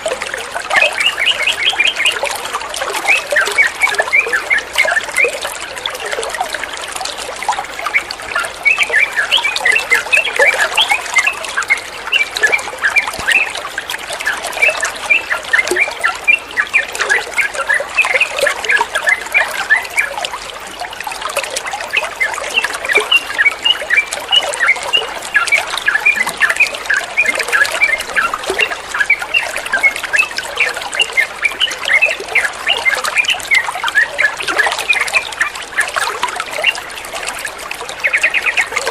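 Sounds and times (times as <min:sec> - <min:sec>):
water trickling and gurgling: 0:00.0 - 0:38.9.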